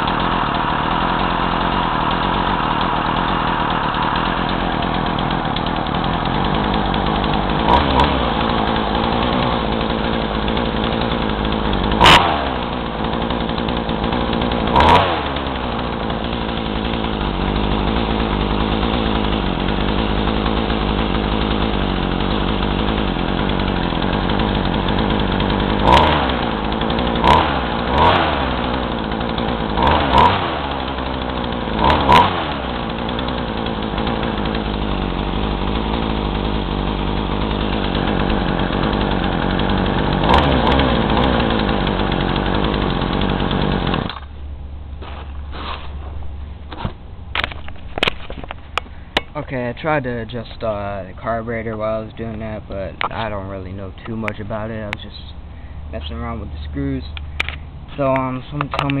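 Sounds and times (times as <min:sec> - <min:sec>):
chainsaw idling and revving: 0:00.0 - 0:45.6, 0:46.3 - 0:59.0.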